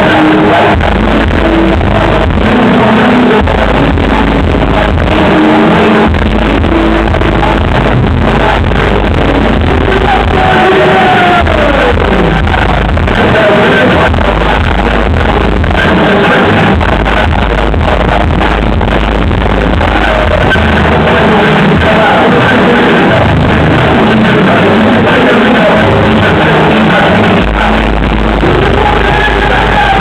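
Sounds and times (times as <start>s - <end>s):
bass-heavy hip-hop beat: 0.0s - 30.0s
person rapping into a microphone: 0.0s - 30.0s.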